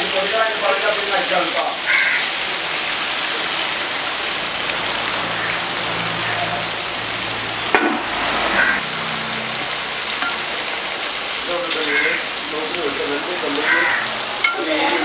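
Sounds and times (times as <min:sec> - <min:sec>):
fish deep-frying in oil: 0:00.0 - 0:15.0.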